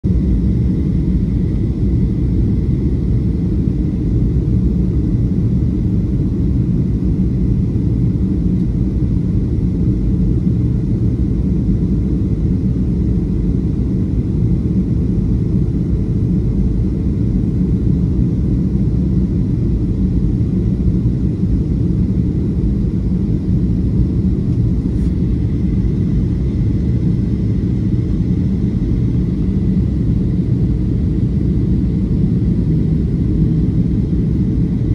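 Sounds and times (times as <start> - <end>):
airplane cabin rumble: 0.0 - 34.9
faint steady whine: 0.1 - 34.9.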